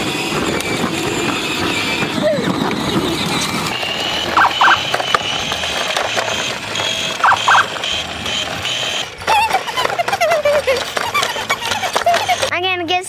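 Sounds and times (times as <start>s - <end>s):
high-pitched motor whine: 0.0s - 12.5s
wheels clacking over pavement joints: 0.0s - 13.0s.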